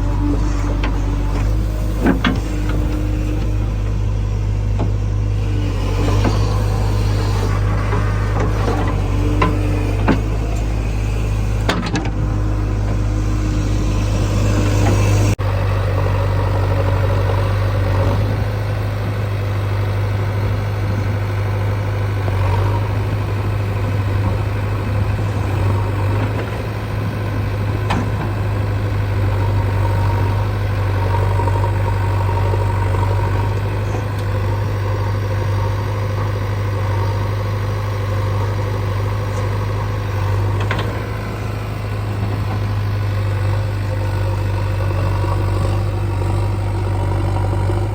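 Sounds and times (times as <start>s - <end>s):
heavy machinery diesel engines droning: 0.0s - 47.9s.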